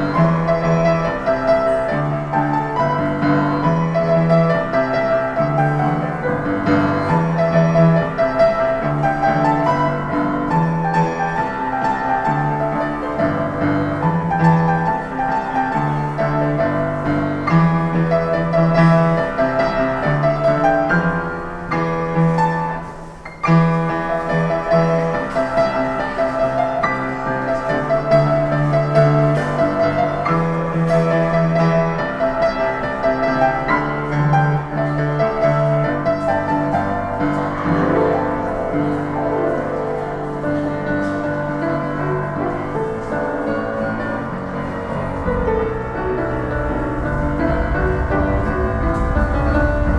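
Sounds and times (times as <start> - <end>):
solo piano pop tune: 0.0 - 49.9.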